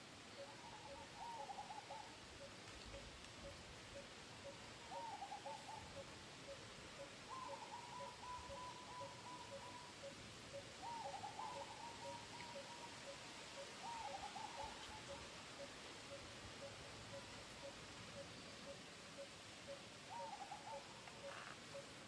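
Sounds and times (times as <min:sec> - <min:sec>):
faint wavering animal calls: 0:00.3 - 0:22.0.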